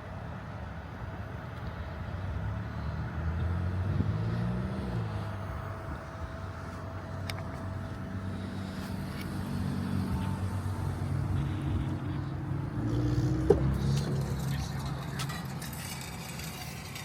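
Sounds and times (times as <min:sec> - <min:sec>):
tyre and road rumble: 0:01.4 - 0:17.0.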